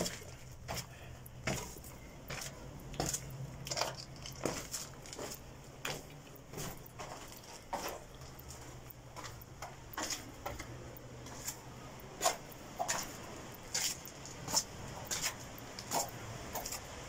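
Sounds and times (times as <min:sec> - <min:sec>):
footsteps on gritty rock: 0:00.0 - 0:17.0.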